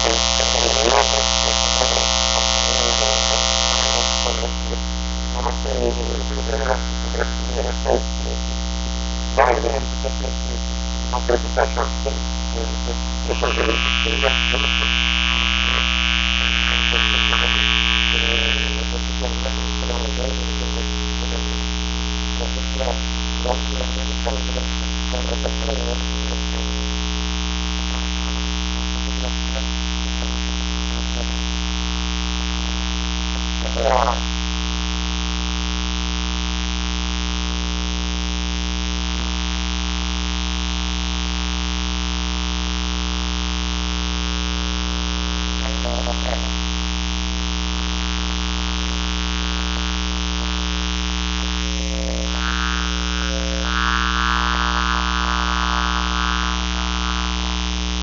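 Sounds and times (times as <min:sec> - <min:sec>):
electrical mains hum: 0:00.0 - 0:35.3, 0:44.0 - 0:58.0.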